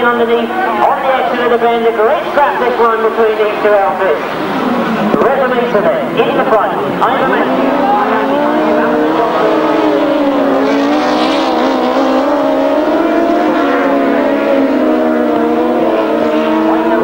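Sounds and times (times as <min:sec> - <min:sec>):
racing engines revving: 0:00.0 - 0:17.0.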